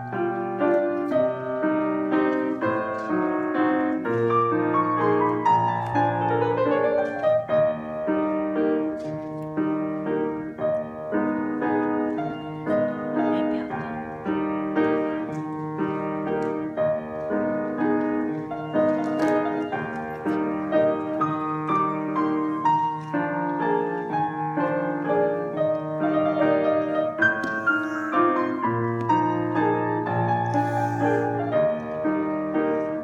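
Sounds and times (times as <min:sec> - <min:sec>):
classical piano piece: 0:00.0 - 0:33.0.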